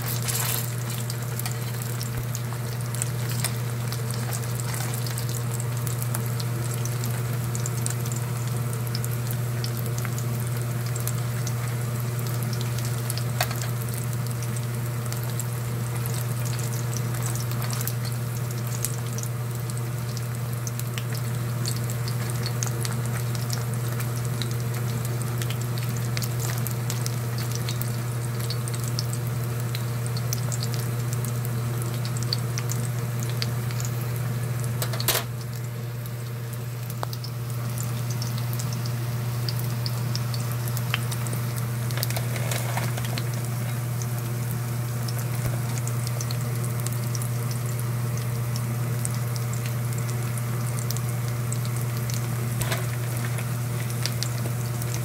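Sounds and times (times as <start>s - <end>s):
meat sizzling in oil: 0.0s - 55.0s.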